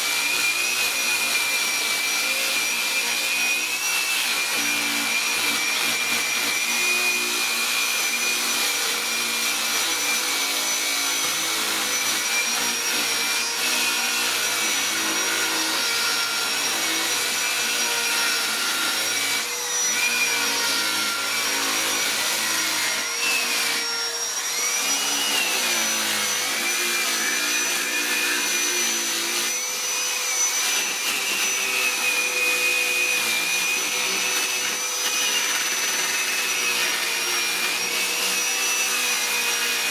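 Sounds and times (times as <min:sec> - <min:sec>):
angle grinder grinding wood: 0:00.0 - 0:39.9.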